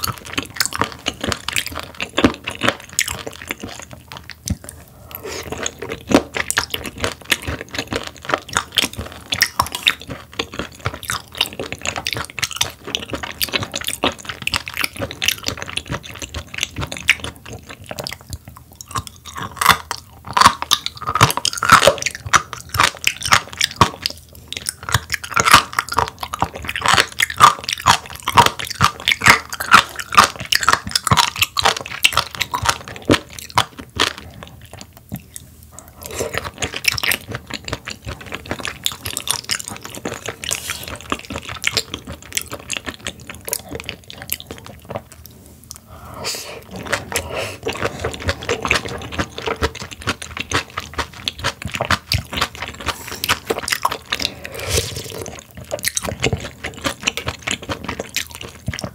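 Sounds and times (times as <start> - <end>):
wet mouth sounds: 0.0 - 58.9.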